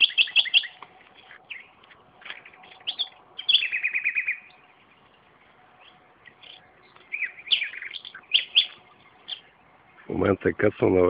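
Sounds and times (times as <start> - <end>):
nightingale singing: 0.0 - 10.2.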